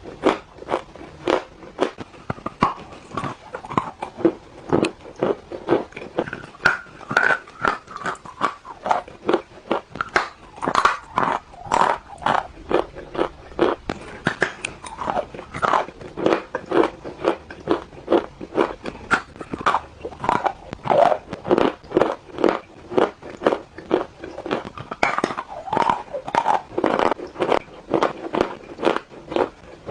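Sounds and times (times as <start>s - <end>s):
crunchy food chewing: 0.0s - 29.9s.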